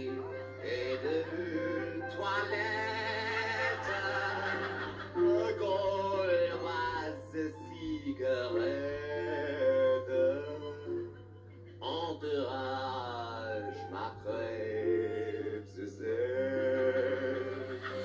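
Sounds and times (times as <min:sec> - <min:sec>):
man singing ballad: 0:00.0 - 0:11.1, 0:11.8 - 0:18.0.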